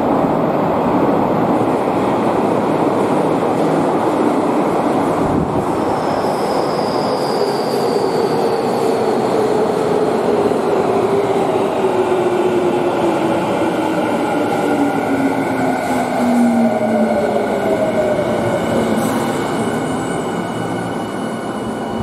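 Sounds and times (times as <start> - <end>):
train running and braking: 0.0 - 22.0.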